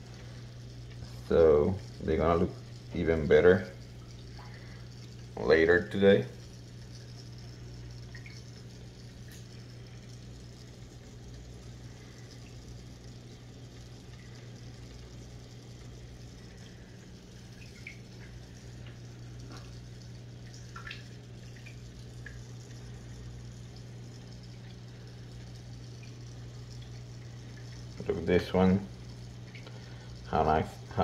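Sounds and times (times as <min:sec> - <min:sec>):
aquarium equipment humming: 0:00.0 - 0:31.0
small drips: 0:00.0 - 0:31.0
water trickling: 0:00.0 - 0:31.0.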